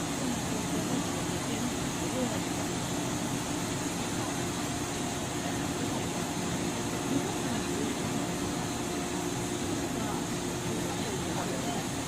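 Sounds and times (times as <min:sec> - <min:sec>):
stationary electric train humming: 0:00.0 - 0:12.0.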